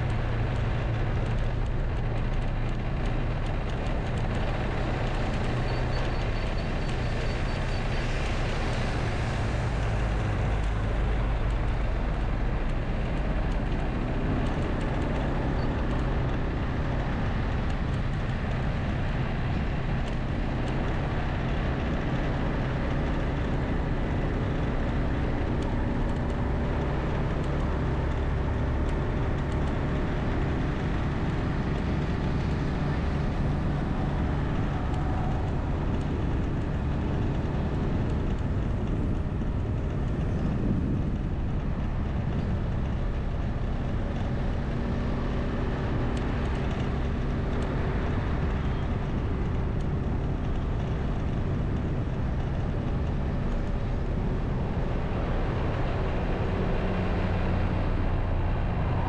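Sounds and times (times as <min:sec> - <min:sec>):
vehicle engine running: 0:00.0 - 0:59.0
wind and road noise: 0:00.0 - 0:59.0.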